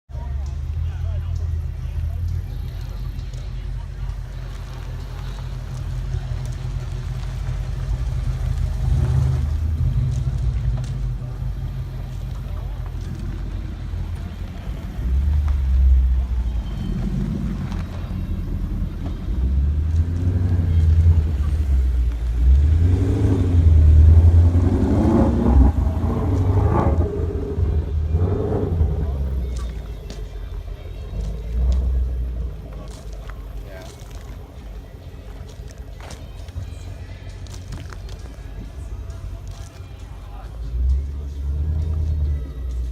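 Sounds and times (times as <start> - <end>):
car engine idling: 0.1 - 42.9.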